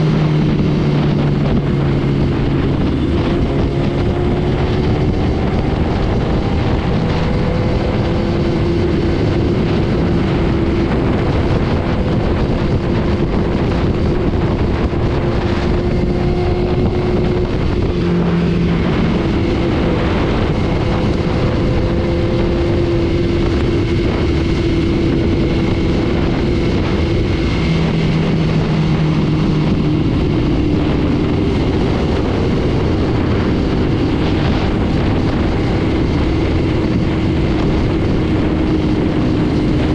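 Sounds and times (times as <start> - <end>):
motorcycle engine hum: 0.0 - 39.9
wind rushing over microphone: 0.0 - 39.9.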